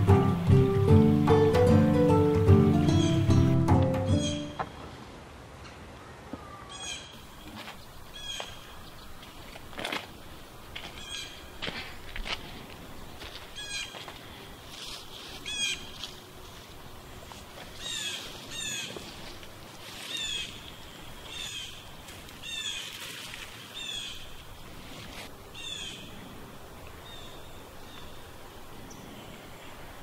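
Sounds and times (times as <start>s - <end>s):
songbird chirping: 0.0s - 5.0s, 5.6s - 11.8s, 13.2s - 30.0s
faint outdoor hiss: 0.0s - 30.0s.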